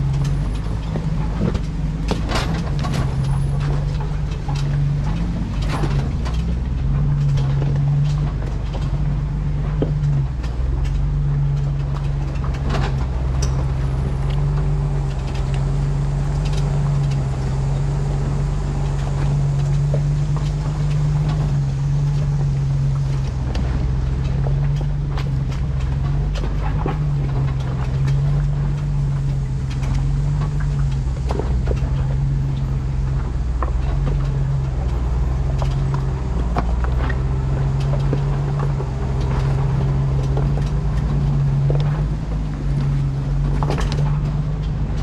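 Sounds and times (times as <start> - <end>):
engine running low hum: 0.0 - 45.0.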